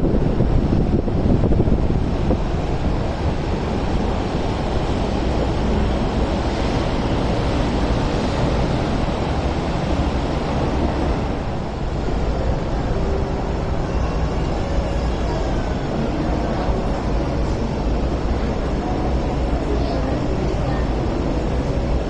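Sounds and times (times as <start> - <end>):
electric trains running: 0.0 - 22.0
wind rumble on microphone: 0.0 - 22.0.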